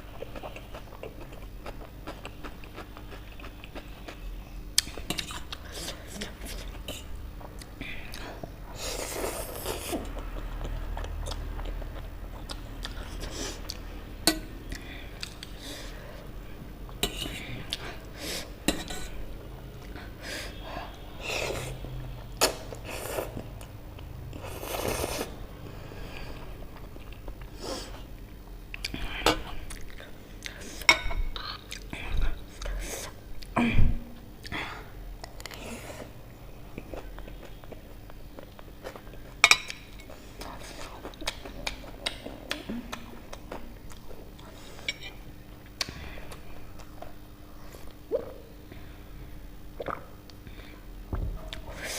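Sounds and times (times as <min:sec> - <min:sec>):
noisy eating: 0:00.0 - 0:33.6, 0:34.4 - 0:49.1.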